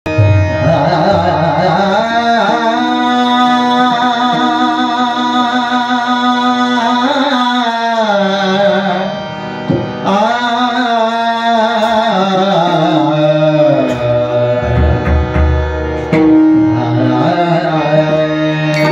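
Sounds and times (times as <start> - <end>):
person singing wordless melody: 0.1 - 18.9.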